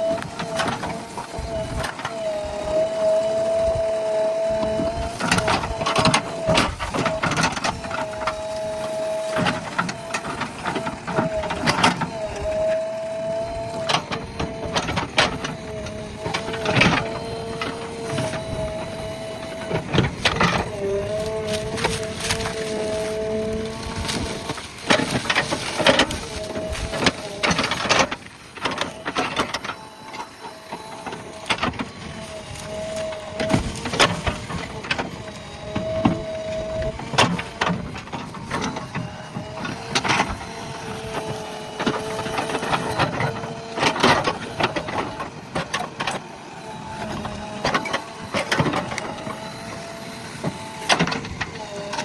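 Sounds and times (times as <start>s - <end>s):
backhoe engine whining: 0.0s - 52.0s.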